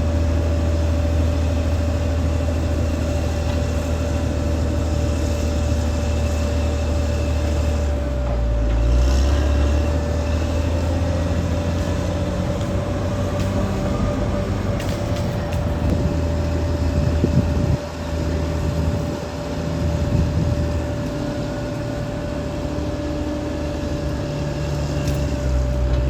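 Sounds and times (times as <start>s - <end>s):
bulldozer diesel engine running: 0.0s - 26.0s
constant whine: 0.0s - 26.0s.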